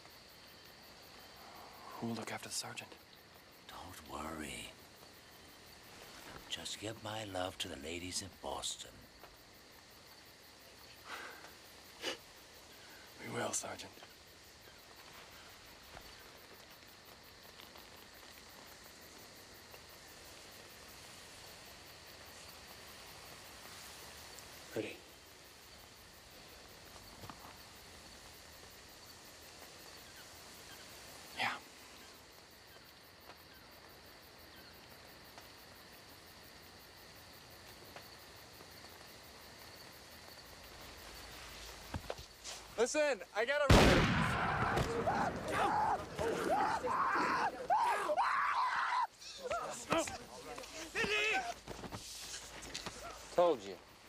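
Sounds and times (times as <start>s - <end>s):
crickets chirping: 0.0s - 54.0s
low steady hiss: 0.0s - 54.0s.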